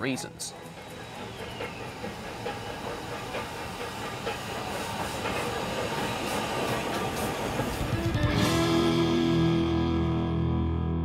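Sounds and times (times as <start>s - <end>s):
steam locomotive hissing: 0.0s - 9.4s.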